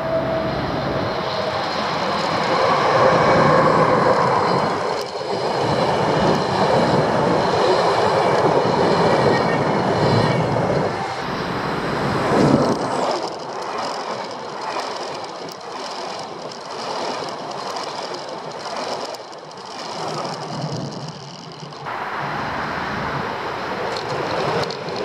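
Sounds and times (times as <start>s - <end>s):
train wheels rushing on rails: 0.0s - 25.0s
train wheels clattering over rails: 1.0s - 21.9s, 23.8s - 25.0s.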